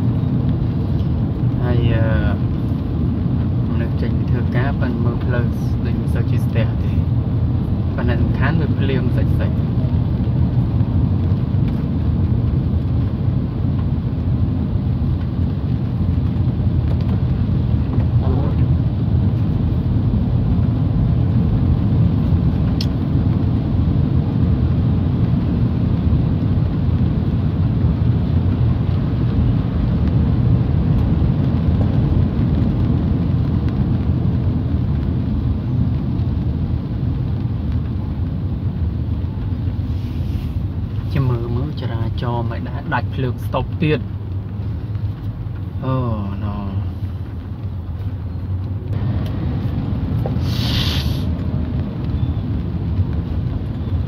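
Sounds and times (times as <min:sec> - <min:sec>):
car engine rumble: 0:00.0 - 0:54.0
tyres on wet road: 0:00.0 - 0:54.0.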